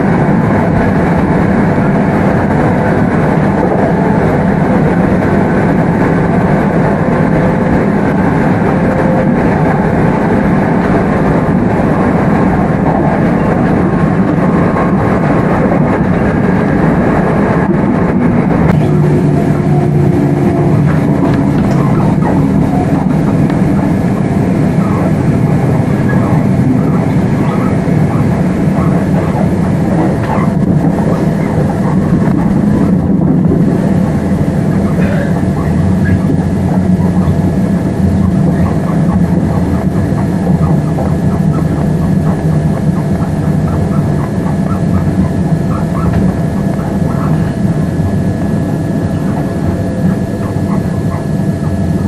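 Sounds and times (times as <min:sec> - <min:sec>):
faint steady whine: 0:00.0 - 0:52.0
train wheels rumbling on rail: 0:00.0 - 0:52.0.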